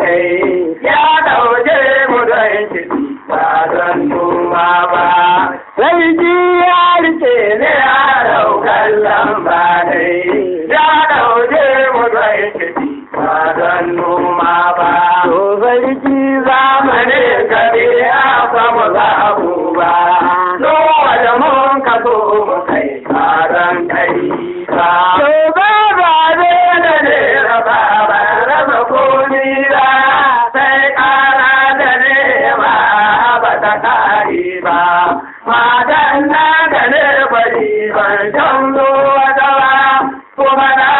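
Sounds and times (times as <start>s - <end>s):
man singing chant-like lines: 0.0s - 40.9s.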